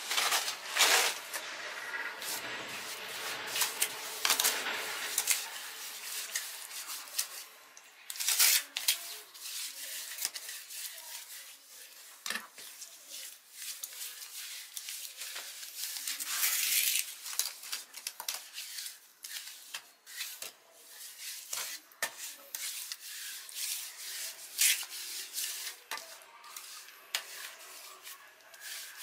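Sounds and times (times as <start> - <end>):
hand scraping and rubbing: 0.0 - 29.0.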